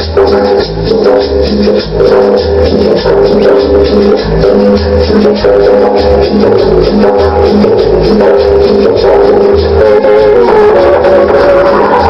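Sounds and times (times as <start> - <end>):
loud dance music over sound system: 0.0 - 12.0.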